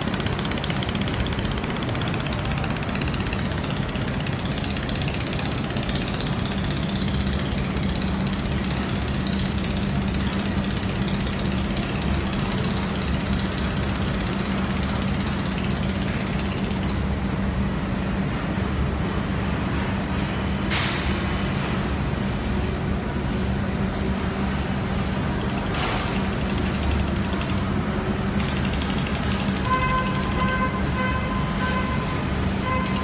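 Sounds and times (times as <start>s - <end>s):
laser welding machine hiss and hum: 0.0s - 33.0s.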